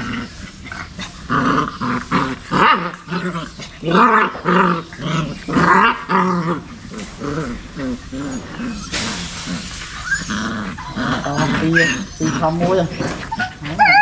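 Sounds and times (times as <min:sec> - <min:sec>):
puppies growling: 0:00.0 - 0:14.0.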